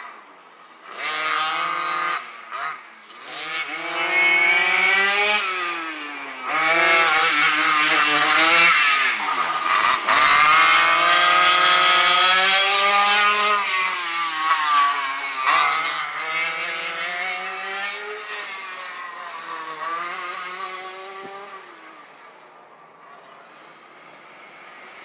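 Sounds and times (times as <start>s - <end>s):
racing kart engines: 0.0s - 25.0s.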